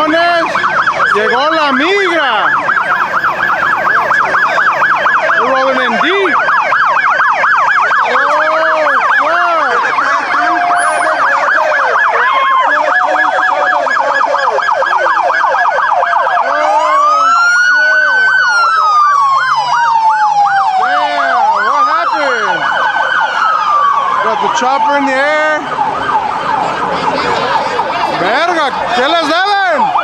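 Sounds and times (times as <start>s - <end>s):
police sirens yelping: 0.0s - 30.0s
siren slow wail: 0.0s - 30.0s.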